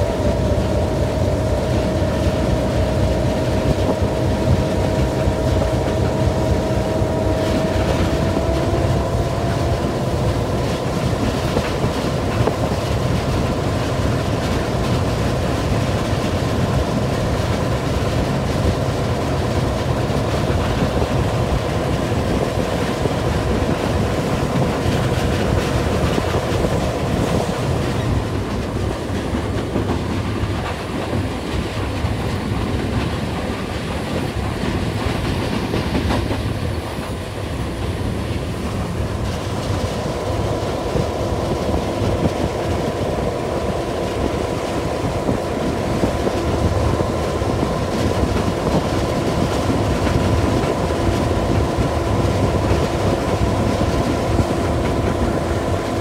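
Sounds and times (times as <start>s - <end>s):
diesel locomotive engine: 0.0s - 56.0s.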